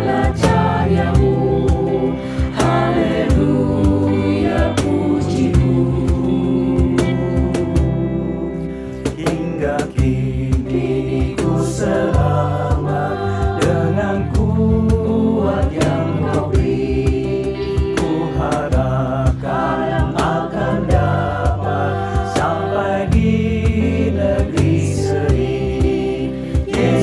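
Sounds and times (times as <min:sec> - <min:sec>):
instrumental accompaniment with beat: 0:00.0 - 0:27.0
mixed choir singing a hymn: 0:00.0 - 0:27.0.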